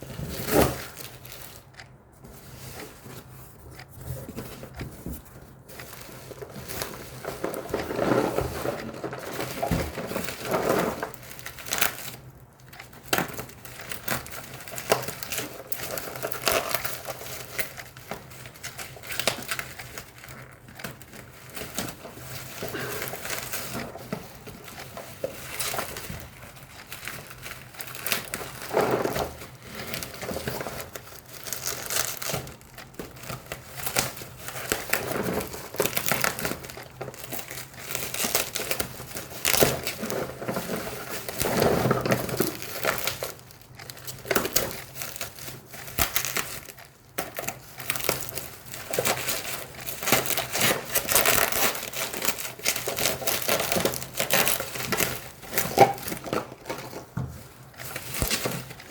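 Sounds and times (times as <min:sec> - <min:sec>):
snack packaging crinkling: 0:05.8 - 0:58.9.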